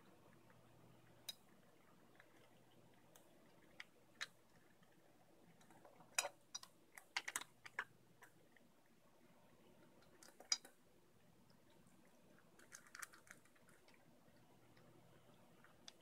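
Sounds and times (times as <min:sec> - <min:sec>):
cats crunching dry kibble: 0:00.0 - 0:08.7, 0:11.5 - 0:16.0.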